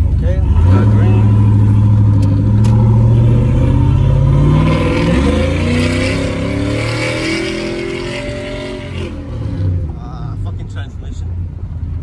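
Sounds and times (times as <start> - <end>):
truck engine accelerating: 0.0 - 10.9.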